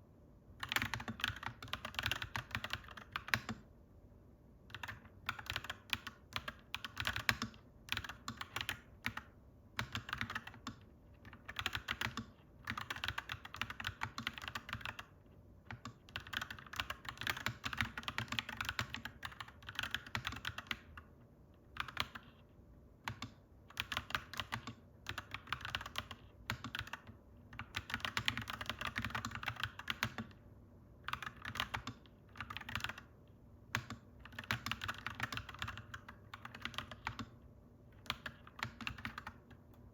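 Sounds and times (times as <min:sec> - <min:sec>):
mechanical keyboard typing: 0:00.6 - 0:03.7, 0:04.7 - 0:21.1, 0:21.7 - 0:22.4, 0:23.0 - 0:30.4, 0:31.0 - 0:39.9.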